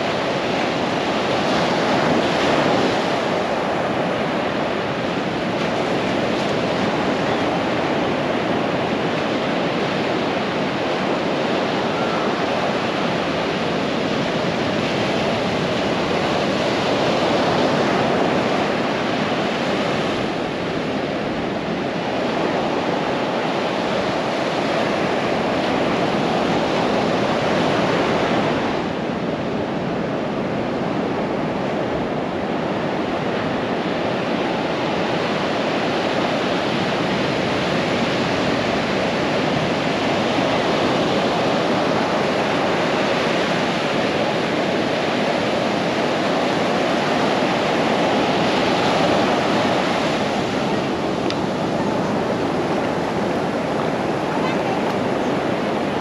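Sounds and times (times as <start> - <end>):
waves breaking on sandy beach: 0.0 - 56.0.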